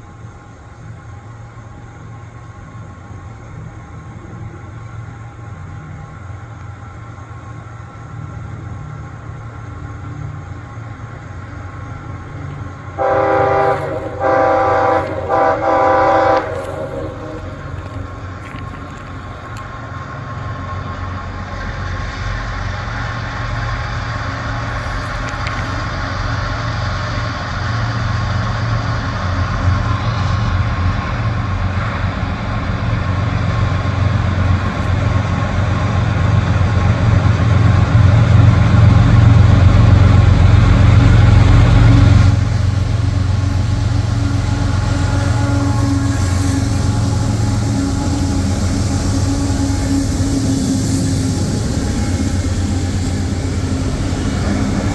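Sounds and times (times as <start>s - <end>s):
locomotive diesel engines droning: 0.0s - 54.9s.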